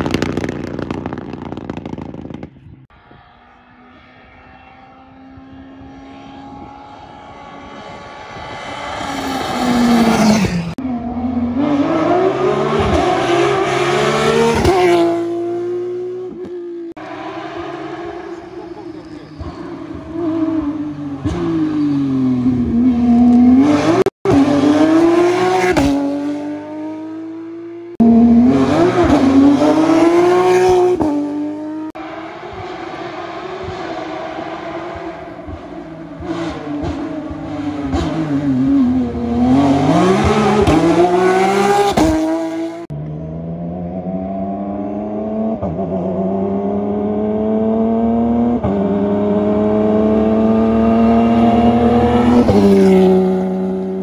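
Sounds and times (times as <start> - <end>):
rally car engines passing: 2.5 - 54.0.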